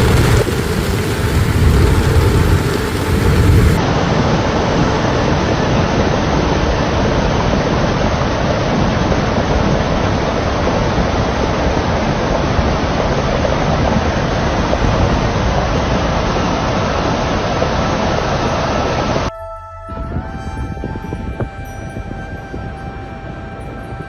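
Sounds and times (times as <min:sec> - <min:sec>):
water rushing: 0:00.0 - 0:19.3
low rumble: 0:00.0 - 0:24.0.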